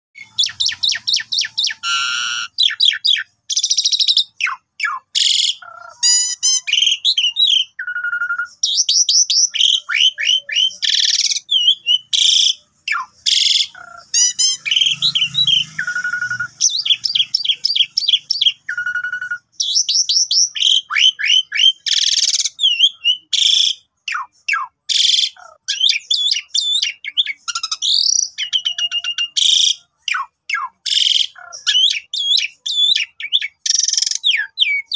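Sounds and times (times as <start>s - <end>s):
starling singing: 0.2s - 34.9s.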